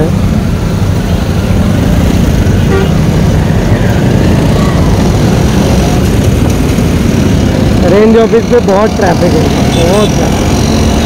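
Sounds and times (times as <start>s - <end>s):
motorcycle engine running: 0.0s - 11.0s
road and traffic noise: 0.0s - 11.0s.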